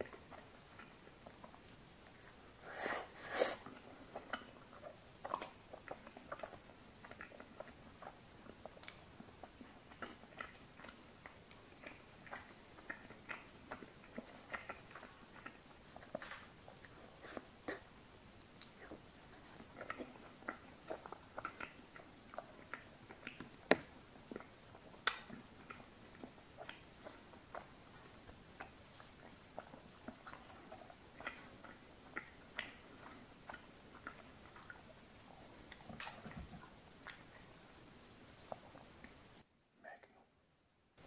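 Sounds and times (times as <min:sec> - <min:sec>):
lip smacks and chewing: 0:00.0 - 0:40.2.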